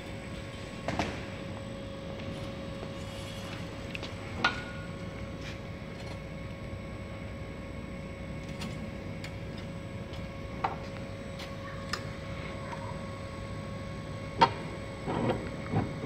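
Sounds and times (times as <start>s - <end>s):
workshop hum with faint whine: 0.0s - 16.0s.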